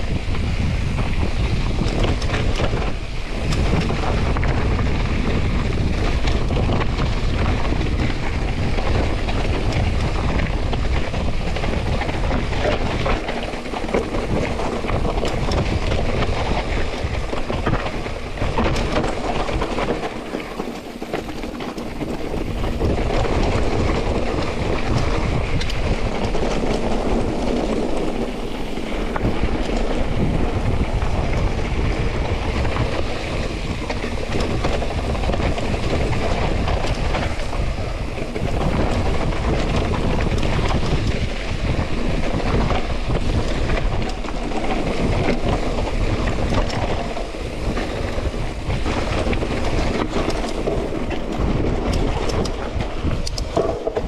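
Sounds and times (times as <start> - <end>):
bike frame rattling: 0.0 - 54.0
tyres rushing on muddy trail: 0.0 - 54.0
wind buffeting microphone: 0.0 - 54.0.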